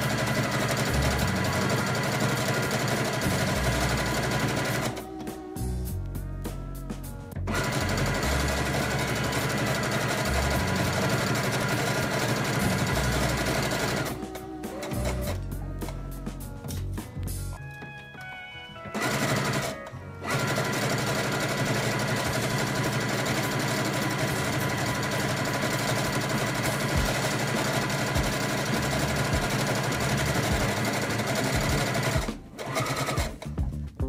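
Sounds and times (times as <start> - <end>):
sewing machine stitching: 0.0 - 5.1, 7.5 - 15.4, 18.9 - 33.5.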